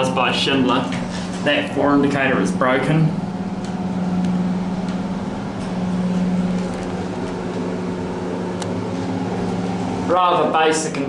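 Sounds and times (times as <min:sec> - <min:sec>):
lift mechanical hum: 0:00.0 - 0:11.0.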